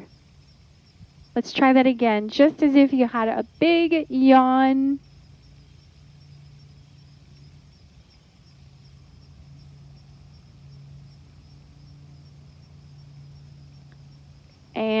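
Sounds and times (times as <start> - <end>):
faint high pulsing chirr: 0.0 - 15.0
steady low hum: 0.0 - 15.0.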